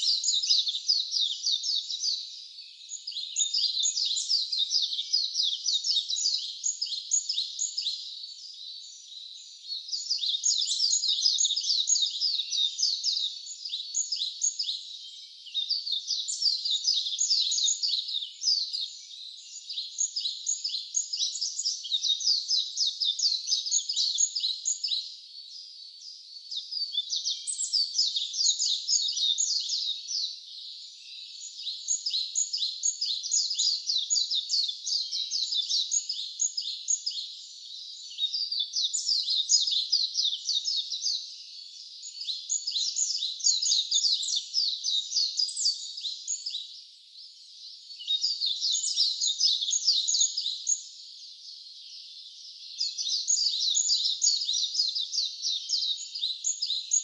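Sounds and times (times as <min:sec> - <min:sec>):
wild birds chirping: 0:00.0 - 0:57.0.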